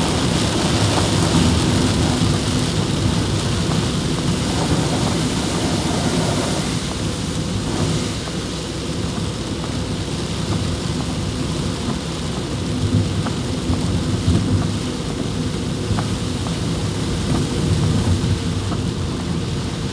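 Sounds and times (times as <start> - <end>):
continuous low rumble: 0.0 - 19.9
heavy rain pouring: 0.0 - 19.9.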